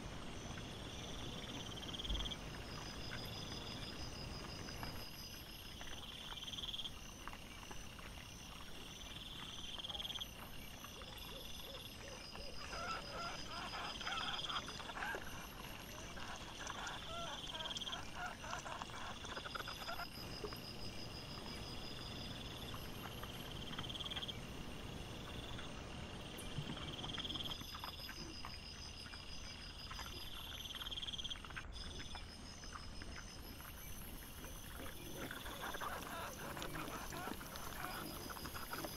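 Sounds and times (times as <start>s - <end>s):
insect chirping: 0.0s - 38.9s.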